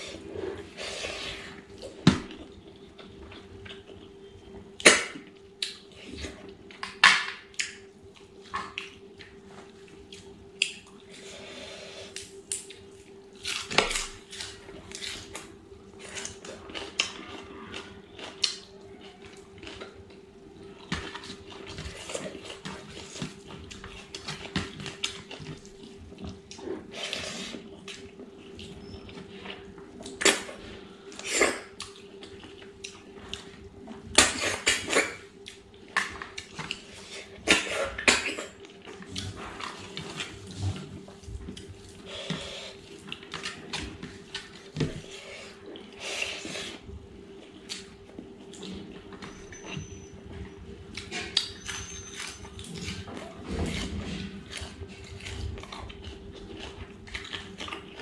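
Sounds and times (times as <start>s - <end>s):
faint hum: 0.0s - 58.0s
wet chewing sounds: 0.0s - 58.0s.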